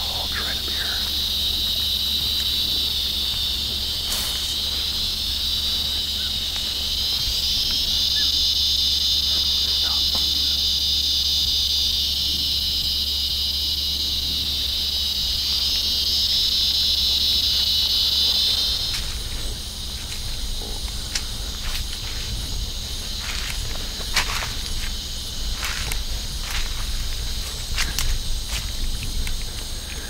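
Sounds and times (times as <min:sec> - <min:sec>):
footsteps: 0:00.0 - 0:10.7, 0:15.2 - 0:30.0
rustling through brush: 0:00.0 - 0:11.8, 0:12.6 - 0:30.0
insect chorus buzzing: 0:00.0 - 0:30.0.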